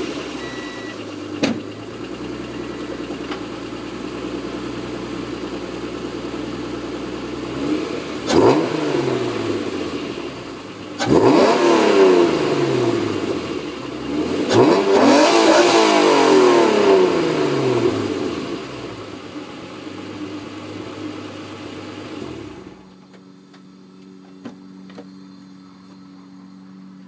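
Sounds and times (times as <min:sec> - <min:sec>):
car engine revving then idling: 0:00.0 - 0:24.8.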